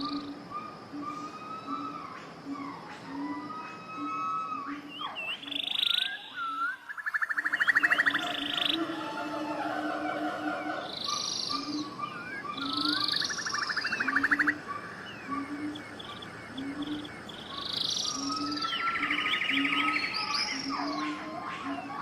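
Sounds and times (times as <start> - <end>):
bird trill: 0.0 - 22.0
birds singing: 0.0 - 22.0.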